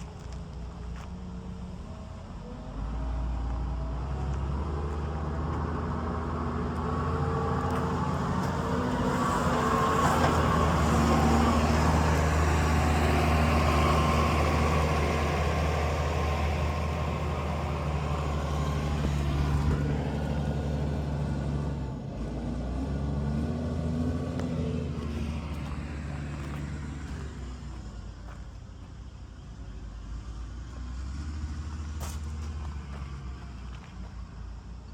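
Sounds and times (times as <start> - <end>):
tractor engine running: 0.0 - 31.1.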